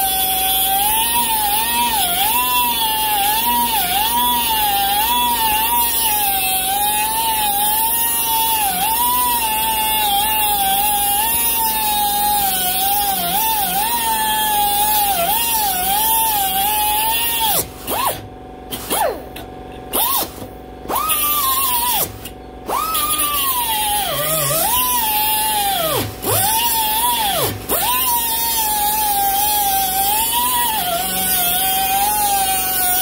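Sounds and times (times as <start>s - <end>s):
air die grinder cutting steel: 0.0s - 19.2s, 19.9s - 33.0s.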